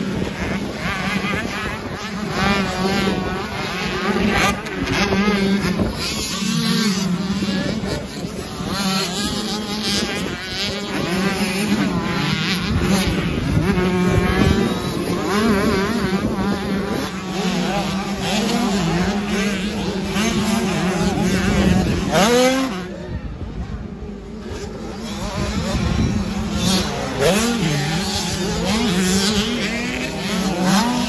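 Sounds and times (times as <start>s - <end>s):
motocross bikes revving: 0.0s - 31.0s.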